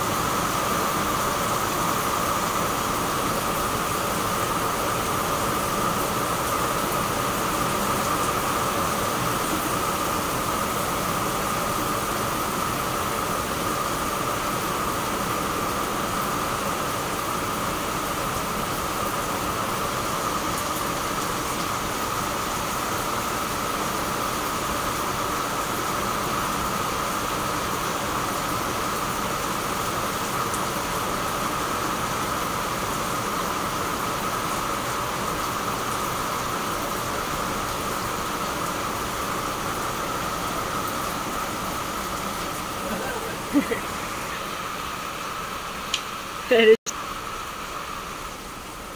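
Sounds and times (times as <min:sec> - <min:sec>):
rain on tiles: 0:00.0 - 0:48.9.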